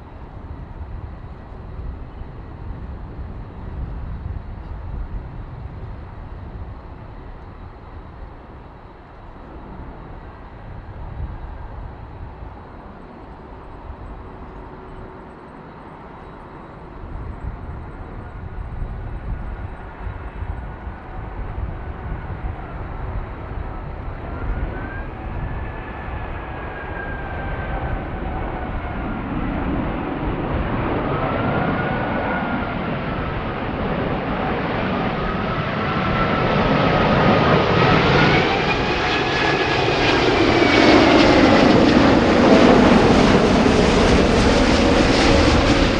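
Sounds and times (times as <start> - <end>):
wind buffeting microphone: 0.0 - 15.1, 16.7 - 45.9
jetliner engines whining: 0.0 - 45.9.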